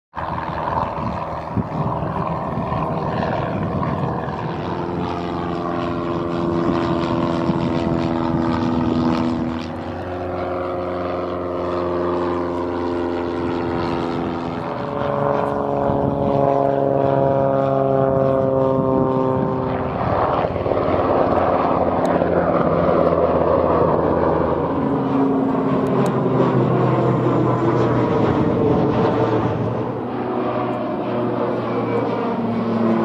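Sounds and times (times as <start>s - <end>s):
propeller plane engine drone: 0.1s - 33.0s.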